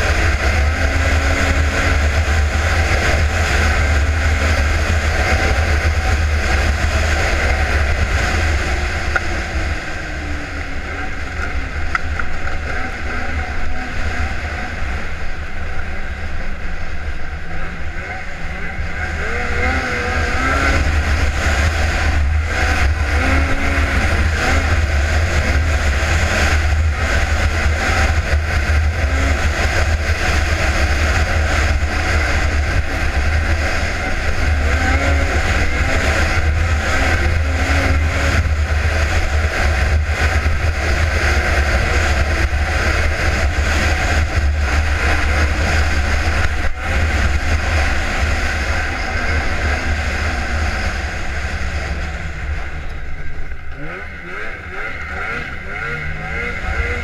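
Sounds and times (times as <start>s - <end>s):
snowmobile engine at high revs: 0.0s - 57.0s.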